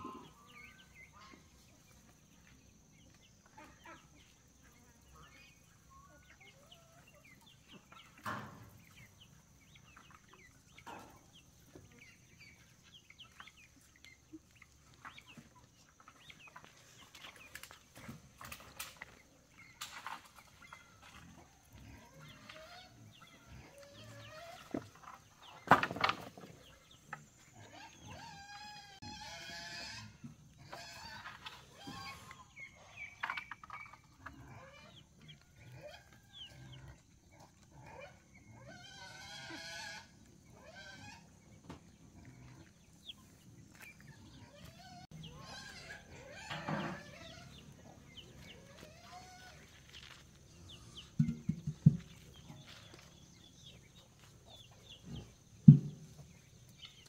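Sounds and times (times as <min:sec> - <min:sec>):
farm animals calling: 0:00.0 - 0:57.0.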